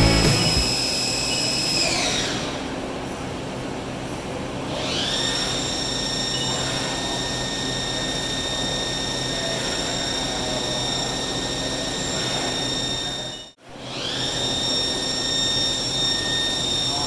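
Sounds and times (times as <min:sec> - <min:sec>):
lathe high-pitched whine: 0:00.0 - 0:02.7, 0:04.7 - 0:17.0.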